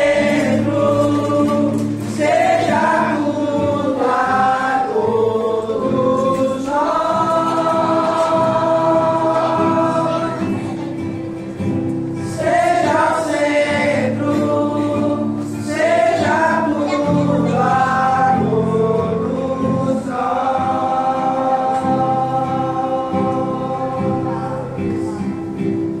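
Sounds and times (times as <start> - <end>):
acoustic guitar: 0.0 - 26.0
person singing worship song: 0.0 - 26.0.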